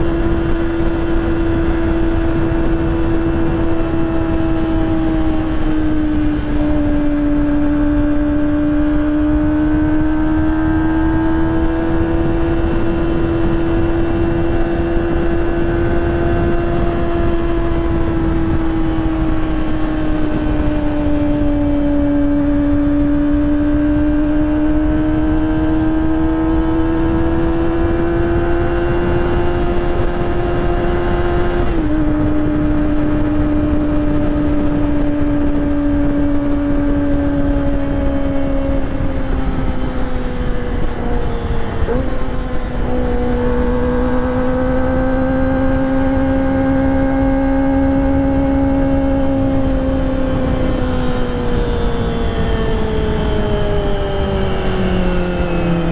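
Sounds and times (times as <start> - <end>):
motorcycle engine at high revs: 0.0 - 55.9
road and wind noise: 0.0 - 55.9.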